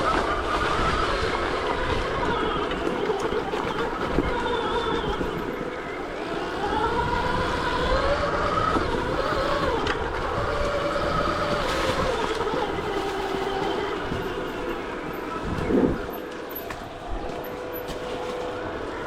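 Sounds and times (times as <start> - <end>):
wind rush: 0.0 - 17.4
electric dirt bike motor whining: 0.0 - 19.0.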